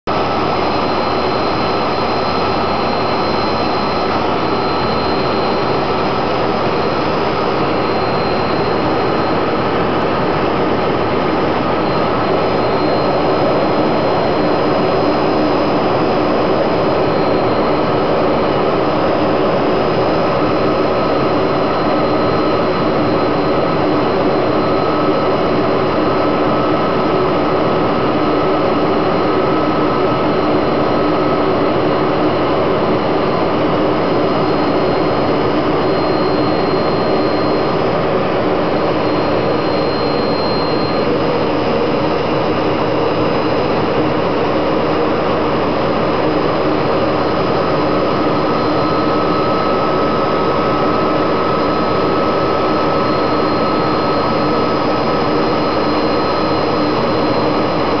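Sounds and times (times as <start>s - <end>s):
jet engine and airflow rush: 0.1s - 58.0s.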